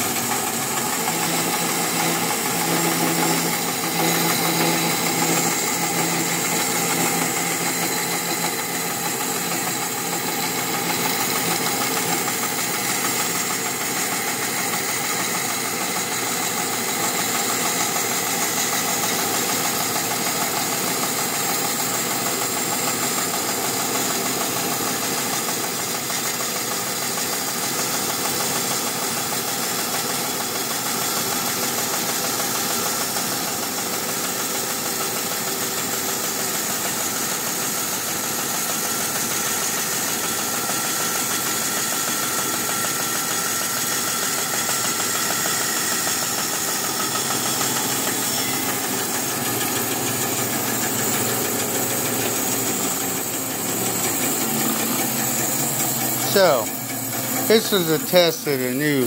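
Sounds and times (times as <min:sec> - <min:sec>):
bandsaw cutting wood: 0:00.0 - 0:59.0.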